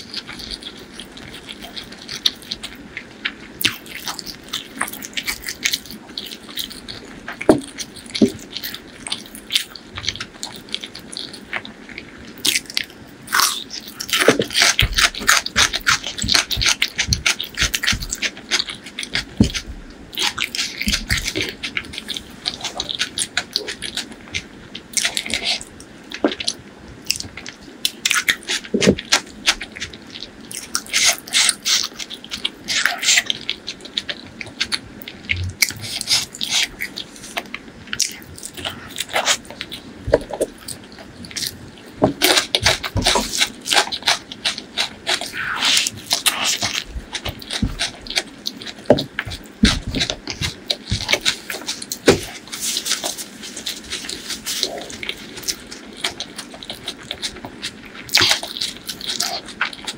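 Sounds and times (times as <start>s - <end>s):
wet chewing and lip smacks: 0.0s - 59.9s.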